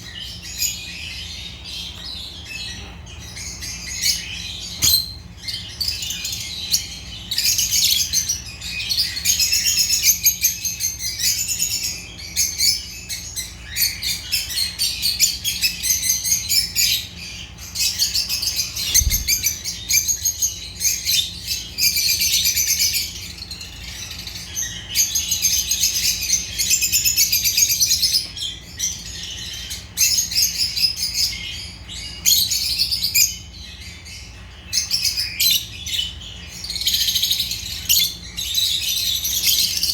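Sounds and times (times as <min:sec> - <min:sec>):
lovebirds twittering: 0:00.0 - 0:39.9.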